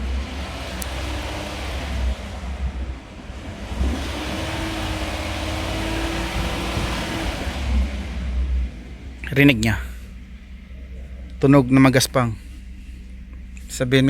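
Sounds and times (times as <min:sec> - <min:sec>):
rough grating engine revving: 0:00.0 - 0:14.0.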